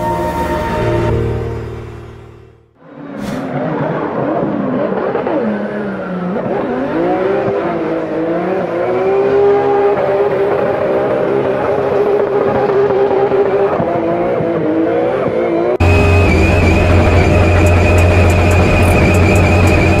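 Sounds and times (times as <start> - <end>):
car engine revving hard: 3.2 - 20.0.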